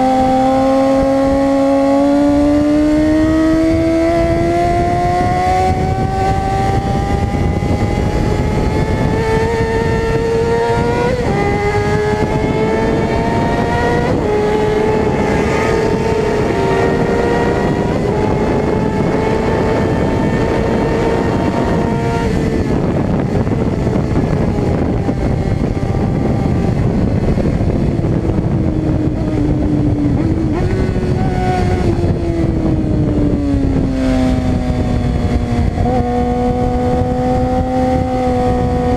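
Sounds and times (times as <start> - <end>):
motorcycle engine at high revs: 0.0 - 38.9
steady rushing noise: 0.0 - 38.9.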